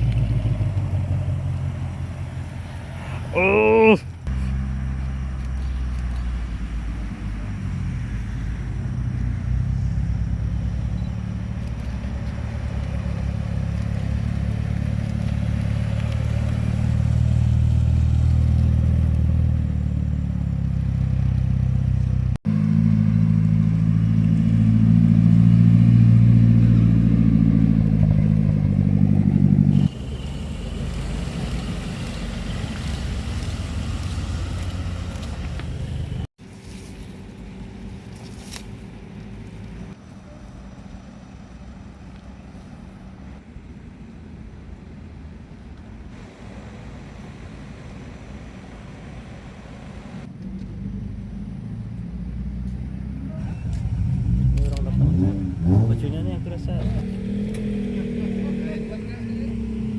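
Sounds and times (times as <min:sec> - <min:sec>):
car engines idling: 0:00.0 - 0:59.9.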